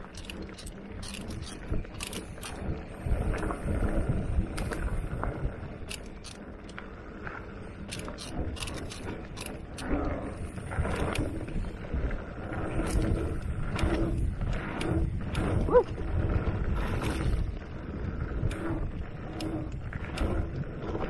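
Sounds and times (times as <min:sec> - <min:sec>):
bike clicks and rattles: 0:00.0 - 0:21.0
bike tyres rumbling on dirt: 0:00.0 - 0:21.0
wind buffeting microphone: 0:00.0 - 0:21.0.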